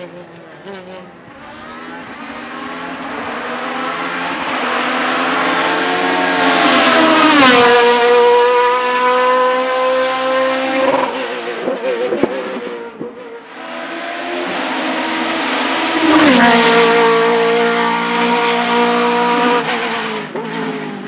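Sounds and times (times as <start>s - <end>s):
race car engine at full throttle: 0.0s - 21.0s.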